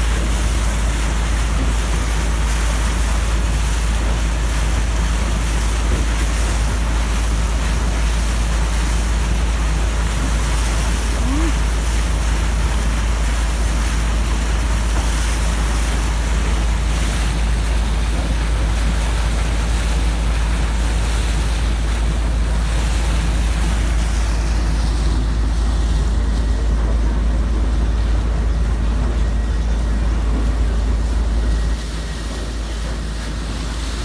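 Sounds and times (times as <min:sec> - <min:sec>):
boat engine drone: 0:00.0 - 0:34.0
rushing water: 0:00.0 - 0:34.0.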